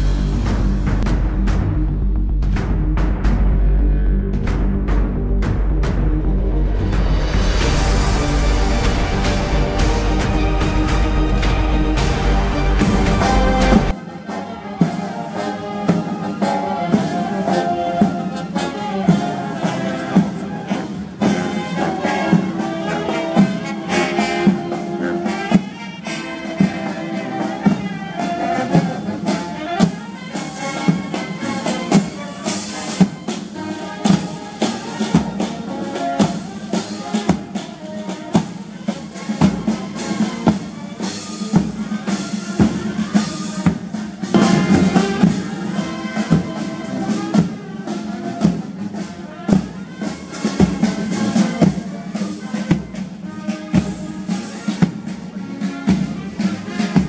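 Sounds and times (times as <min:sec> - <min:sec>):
marching drum beat: 0:04.4 - 0:14.0, 0:14.8 - 0:57.0
brass band playing: 0:05.0 - 0:57.0.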